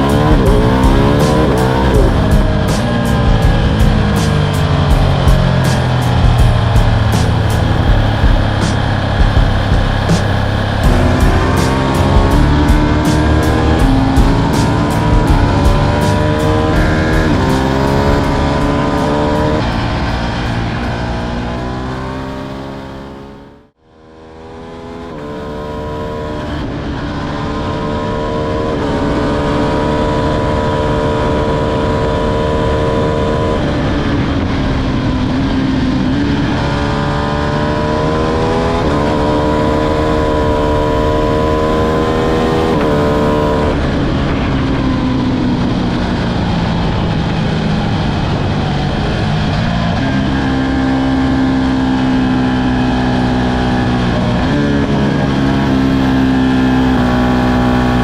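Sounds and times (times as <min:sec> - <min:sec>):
constant rushing noise: 0:00.0 - 0:23.6, 0:28.4 - 0:58.0
motorcycle engine accelerating: 0:00.0 - 0:58.0.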